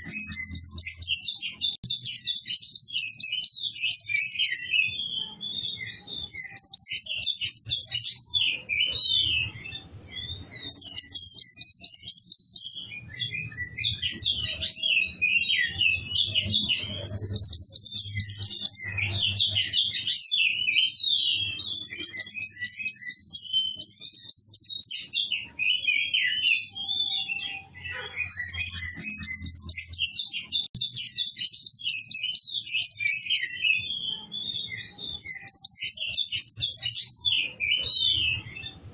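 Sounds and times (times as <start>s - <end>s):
songbird trilling and chirping: 0.0s - 38.9s.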